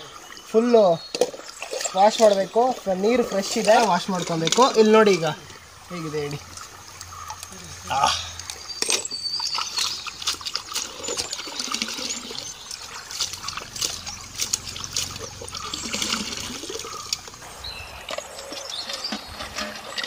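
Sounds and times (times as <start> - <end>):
water sloshing in a steel bowl: 0.3 - 20.0.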